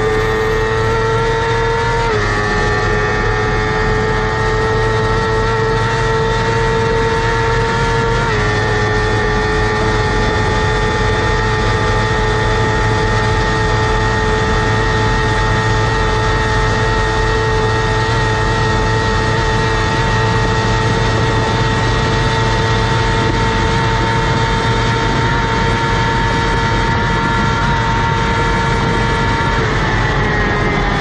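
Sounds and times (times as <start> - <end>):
motorcycle engine high revs: 0.0 - 31.0.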